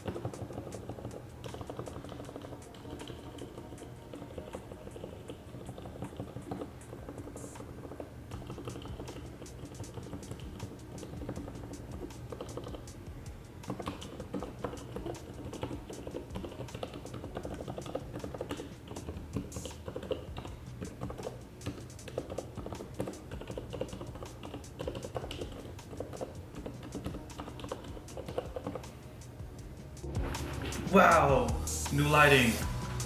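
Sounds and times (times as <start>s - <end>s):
keyboard keys clicking: 0.0s - 29.7s.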